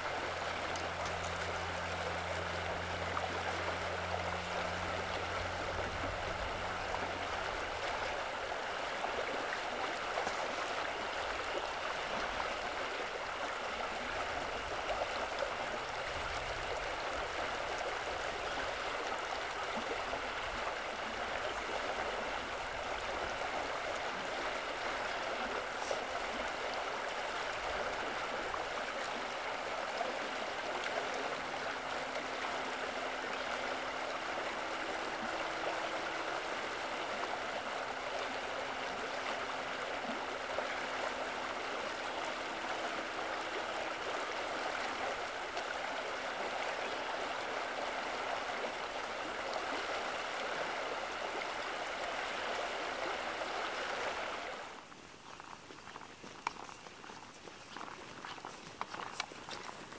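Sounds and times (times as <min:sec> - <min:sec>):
creek babbling over rocks: 0:00.0 - 0:59.9
faint low hum: 0:00.0 - 0:59.9.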